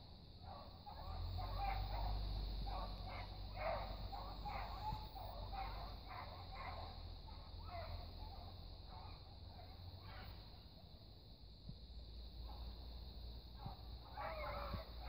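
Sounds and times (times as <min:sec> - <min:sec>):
distant dogs barking: 0:00.0 - 0:11.0, 0:12.0 - 0:15.0.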